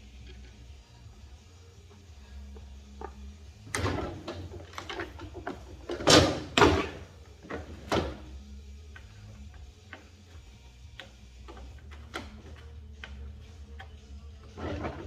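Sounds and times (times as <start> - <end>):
clunks and knocks from handling: 1.9 - 15.0.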